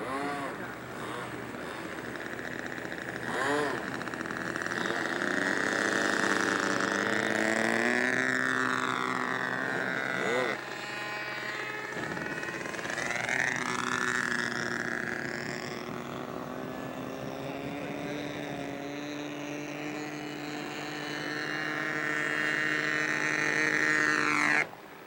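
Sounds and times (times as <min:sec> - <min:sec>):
model plane engine buzzing: 0:00.0 - 0:25.0.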